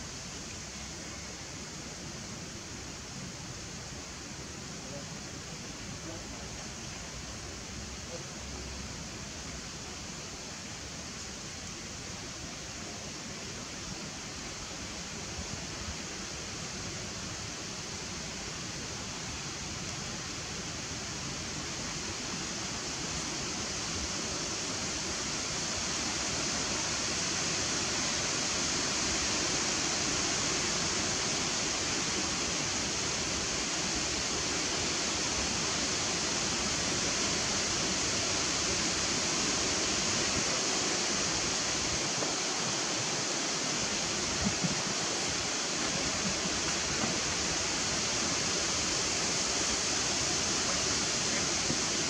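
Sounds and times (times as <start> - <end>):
steady outdoor hiss: 0.0 - 52.0.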